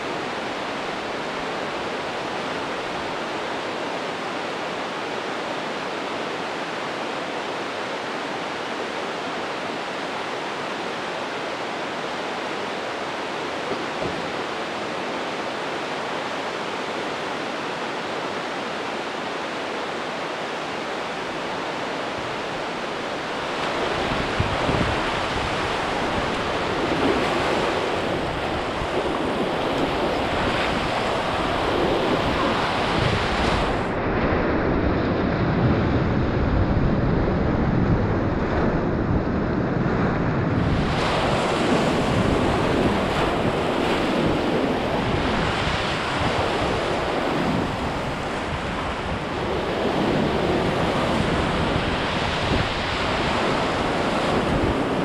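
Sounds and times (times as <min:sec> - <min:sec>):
churning river rapids: 0:00.0 - 0:35.6, 0:40.0 - 0:55.0.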